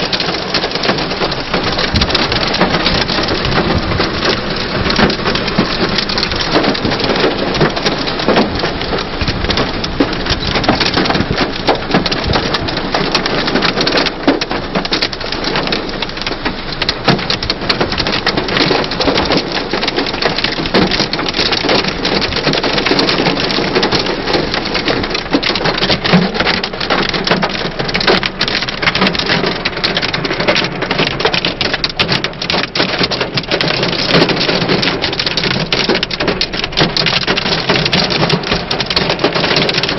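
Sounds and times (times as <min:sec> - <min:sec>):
hail and rain on car roof: 0:00.0 - 0:39.9.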